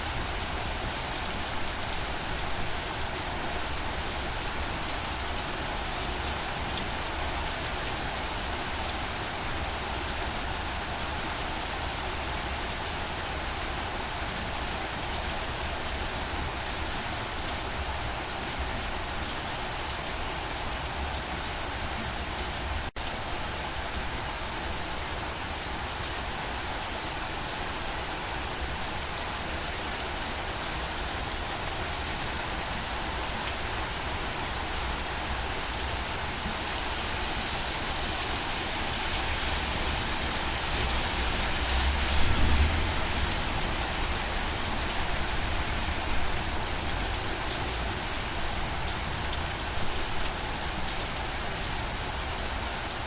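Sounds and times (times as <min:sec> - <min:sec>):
rain pattering on surfaces: 0:00.0 - 0:53.0.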